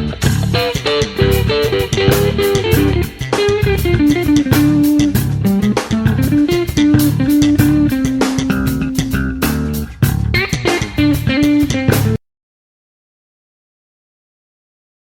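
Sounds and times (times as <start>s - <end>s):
guitar-led instrumental music: 0.0s - 12.2s.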